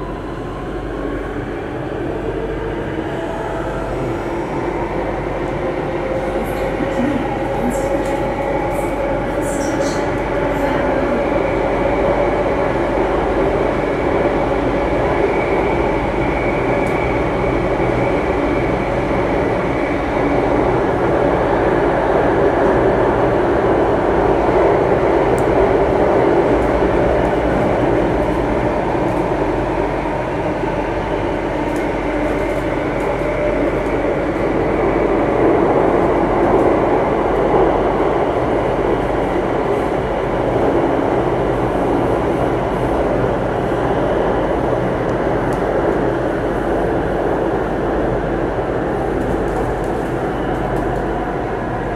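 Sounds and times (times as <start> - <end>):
train rumble in tunnel: 0.0 - 51.9.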